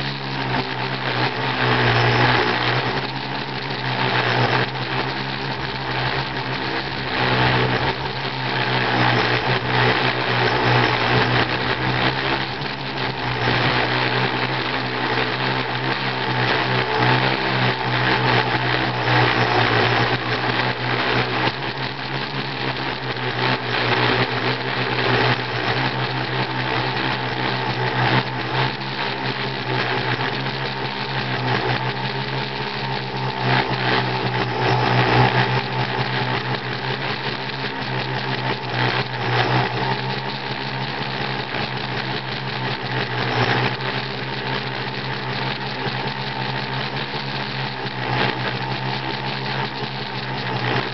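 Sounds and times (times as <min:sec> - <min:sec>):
electric motors and propellers humming: 0:00.0 - 0:50.9.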